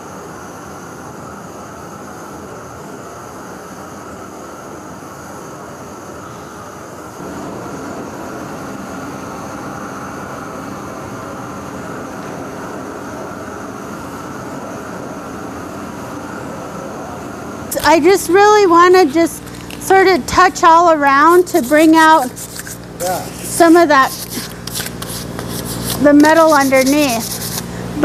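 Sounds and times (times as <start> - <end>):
gas torch flame hissing: 3.5 - 28.0.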